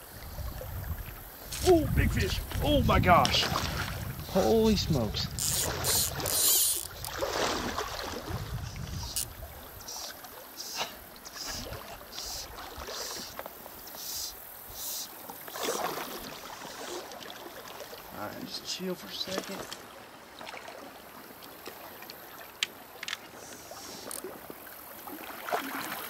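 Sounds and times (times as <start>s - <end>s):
creek water flowing: 0.0s - 26.0s
water splashing in creek: 0.0s - 26.0s.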